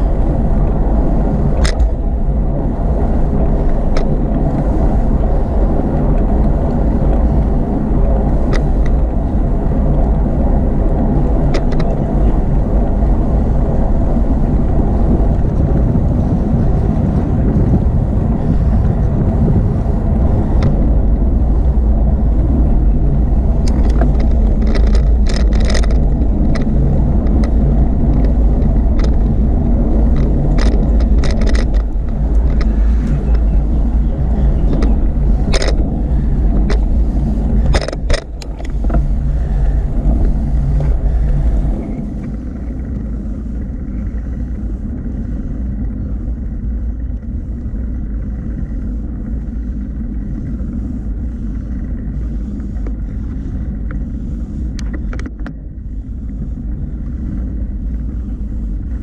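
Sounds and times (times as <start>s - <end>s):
motorway traffic rumble: 0.0s - 59.0s
wind noise: 0.0s - 59.0s.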